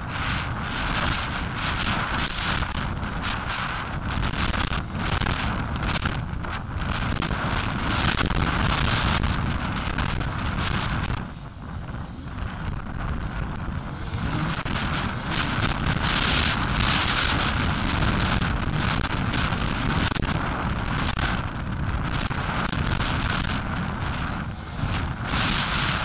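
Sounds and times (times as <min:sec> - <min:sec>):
motocross bike engine: 0:00.0 - 0:26.0
wind buffeting microphone: 0:00.0 - 0:26.0.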